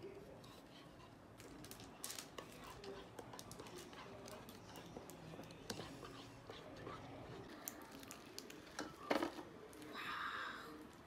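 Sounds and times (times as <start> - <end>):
slime squelching stirred with spoon: 0.1 - 9.0.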